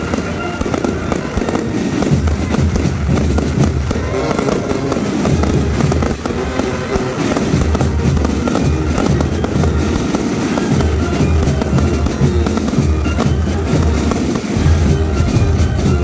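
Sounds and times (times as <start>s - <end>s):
fireworks crackling and banging: 0.0s - 16.0s
music playing: 0.0s - 16.0s.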